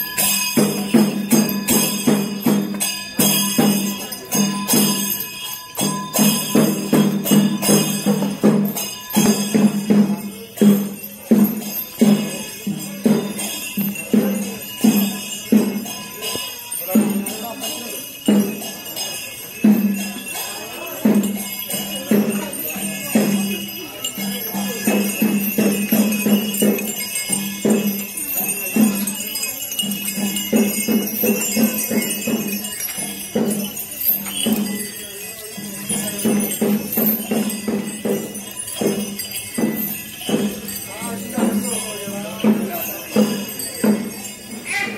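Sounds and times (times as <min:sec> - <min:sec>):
drums beating: 0:00.0 - 0:44.9
hand cymbals clashing: 0:00.0 - 0:44.9.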